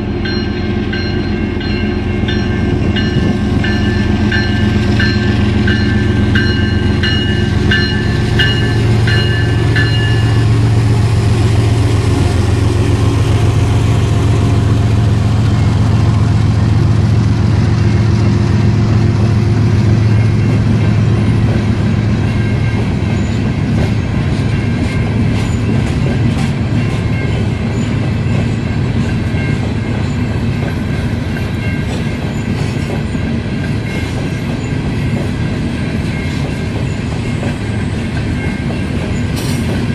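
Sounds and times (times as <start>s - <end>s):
freight train rumbling past: 0.0s - 39.9s
railroad crossing bell ringing: 0.0s - 39.9s.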